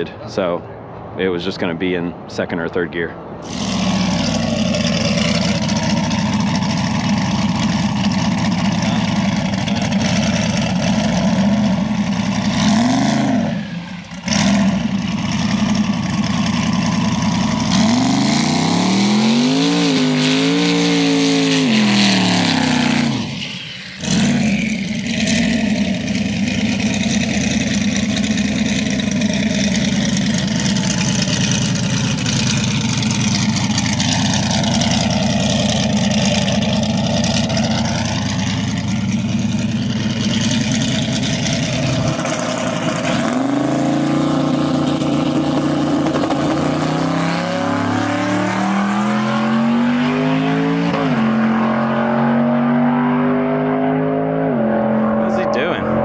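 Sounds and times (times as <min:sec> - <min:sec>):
road noise: 0:00.0 - 0:56.0
vehicle engine running: 0:03.4 - 0:49.7.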